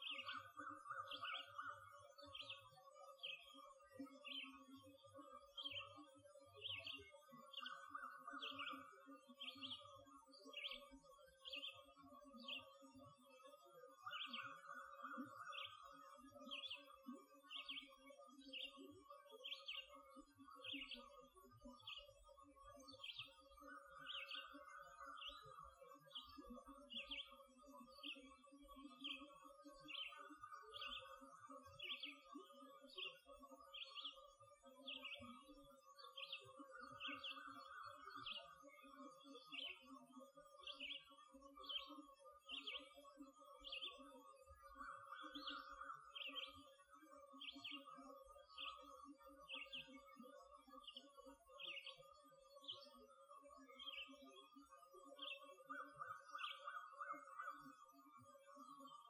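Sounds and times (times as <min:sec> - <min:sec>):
songbird high chirp: 0:00.0 - 0:12.8, 0:14.0 - 0:18.8, 0:19.4 - 0:53.1, 0:53.7 - 0:57.8.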